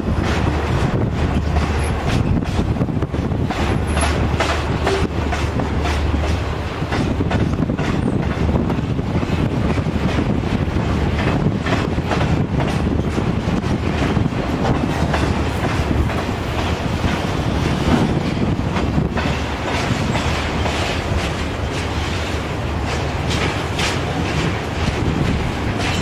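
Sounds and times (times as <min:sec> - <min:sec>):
freight train rolling past: 0:00.0 - 0:26.0
wheels clacking over rail joints: 0:00.0 - 0:26.0.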